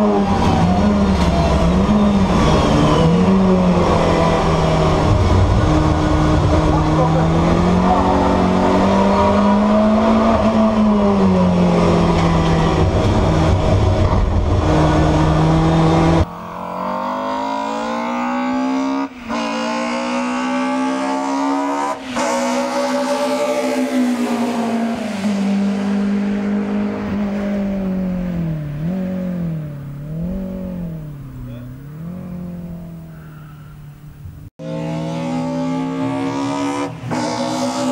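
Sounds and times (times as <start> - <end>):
racing engine revving high: 0.0 - 33.2, 34.6 - 37.9.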